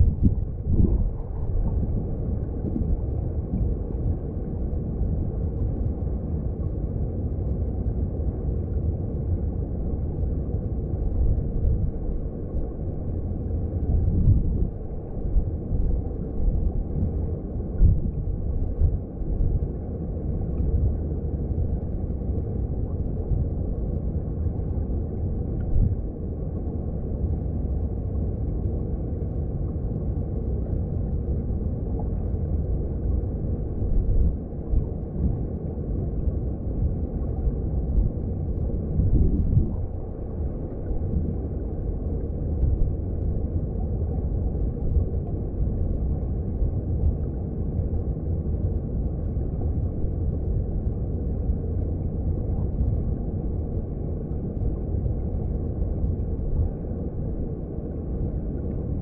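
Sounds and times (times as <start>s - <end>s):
muffled underwater stream rumble: 0.0s - 59.0s.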